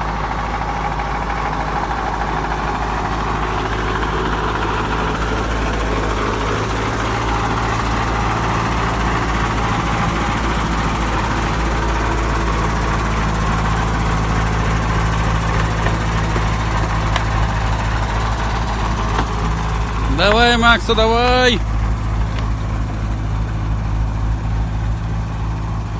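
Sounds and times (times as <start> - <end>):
truck engine droning: 0.0 - 25.9.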